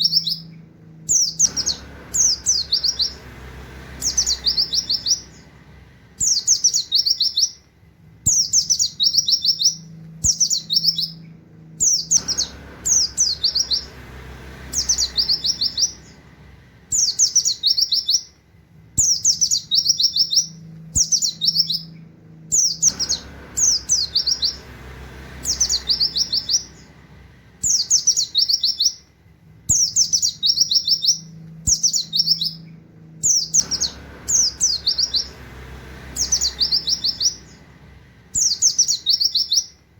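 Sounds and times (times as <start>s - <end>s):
bird singing high whistled notes: 0.0s - 3.3s, 3.9s - 5.6s, 6.2s - 7.7s, 8.3s - 14.0s, 14.6s - 16.3s, 16.9s - 18.4s, 19.0s - 24.7s, 25.4s - 27.0s, 27.6s - 29.1s, 29.7s - 35.5s, 36.1s - 39.8s.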